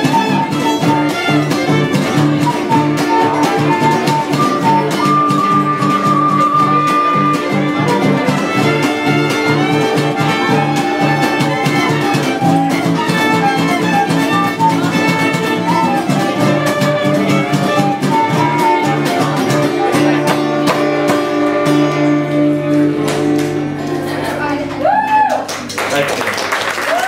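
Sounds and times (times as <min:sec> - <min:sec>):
fiddle melody: 0:00.0 - 0:24.2
strummed acoustic guitar: 0:00.0 - 0:24.7.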